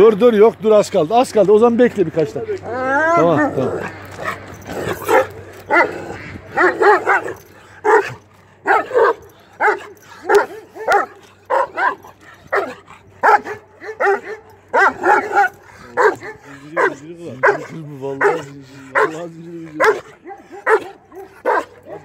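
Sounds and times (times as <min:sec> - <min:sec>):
dog barking: 0:04.2 - 0:22.0.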